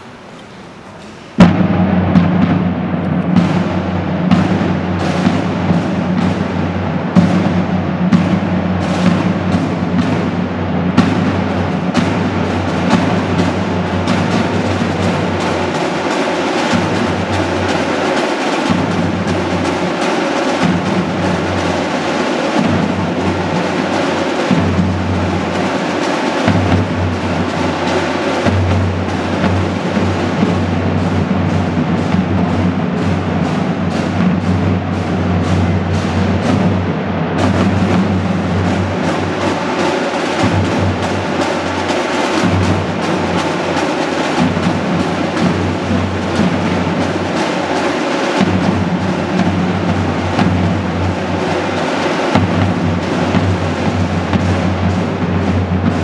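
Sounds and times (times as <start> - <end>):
drums keeping a steady beat: 0.0 - 56.0
marching band playing: 0.0 - 56.0.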